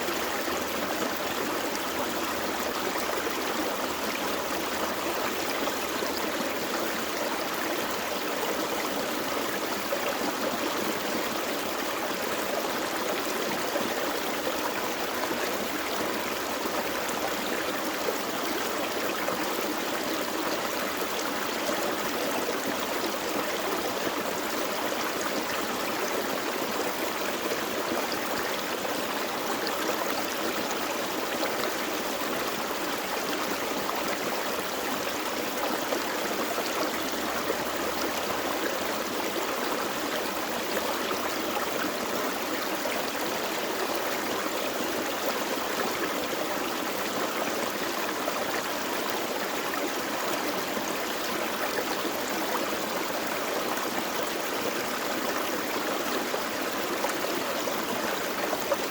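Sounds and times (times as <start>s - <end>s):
creek flowing over stones: 0.0s - 58.9s.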